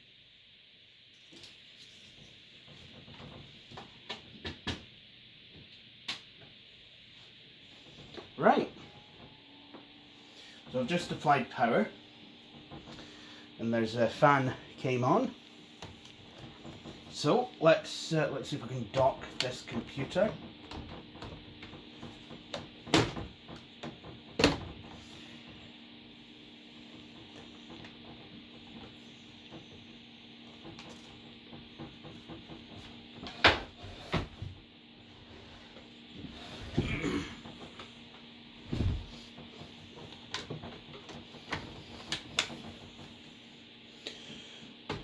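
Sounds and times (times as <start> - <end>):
fan humming: 1.0 - 45.0.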